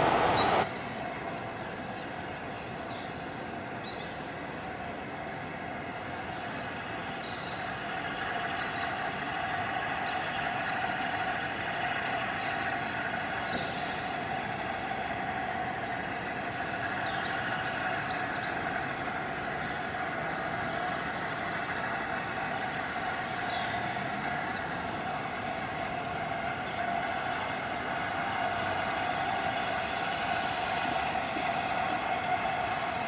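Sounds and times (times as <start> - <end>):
distant train humming drone: 0.0 - 33.0.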